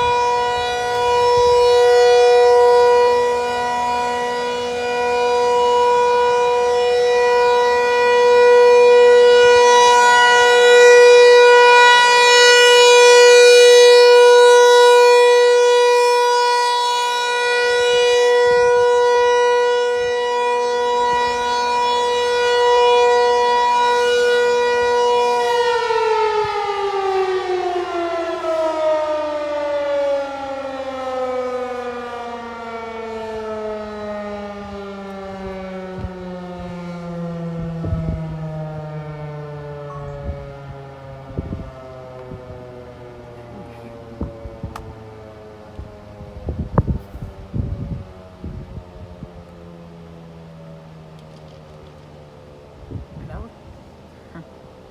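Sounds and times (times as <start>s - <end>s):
warning siren: 0.0s - 54.9s.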